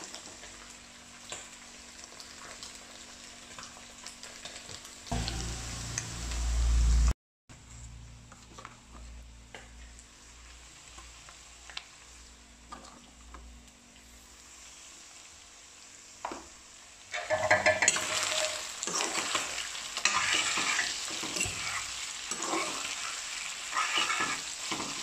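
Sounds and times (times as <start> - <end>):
meat sizzling in oil: 0.0 - 7.1, 9.2 - 25.0.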